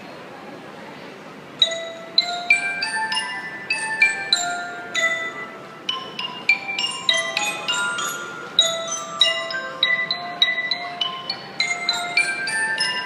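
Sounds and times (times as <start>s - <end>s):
mallet percussion melody: 1.6s - 13.0s.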